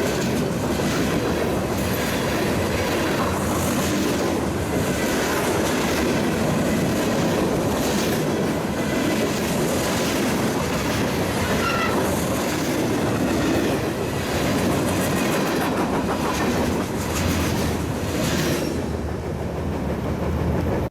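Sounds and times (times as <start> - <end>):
freight train rumbling past: 0.0 - 20.9
wheels clacking over rail joints: 0.0 - 20.9.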